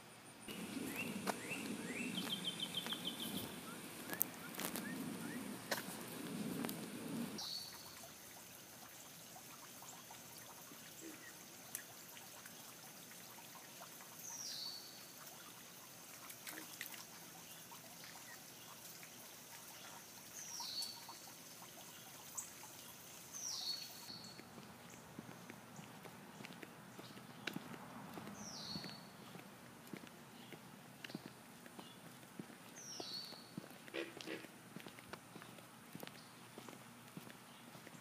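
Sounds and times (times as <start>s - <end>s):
water trickling in creek: 0.5s - 38.0s.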